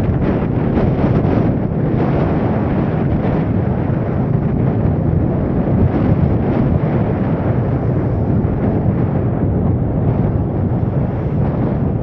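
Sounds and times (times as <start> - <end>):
vehicle and road rumble: 0.0 - 12.0
wind rushing over microphone: 0.0 - 12.0.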